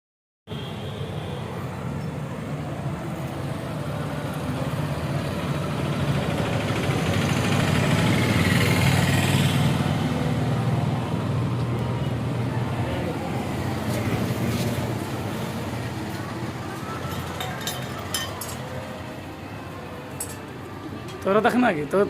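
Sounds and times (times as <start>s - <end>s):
vehicle engine rumble: 1.7s - 21.3s.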